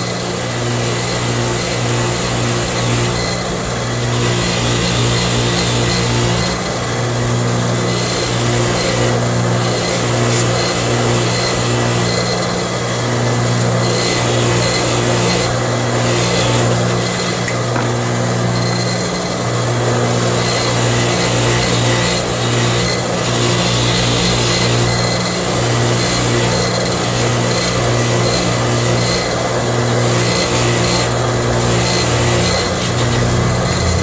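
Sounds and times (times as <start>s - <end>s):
power tool motor humming: 0.0s - 34.0s.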